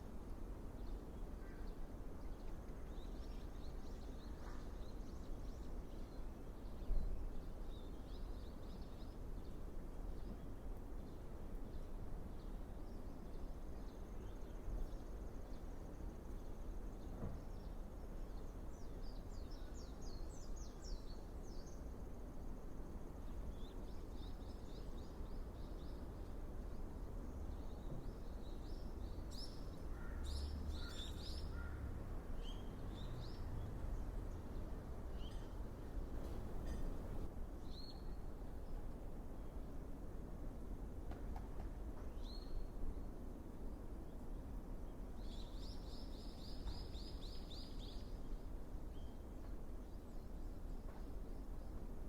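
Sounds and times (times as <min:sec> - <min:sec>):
outdoor background noise: 0:00.0 - 0:52.0.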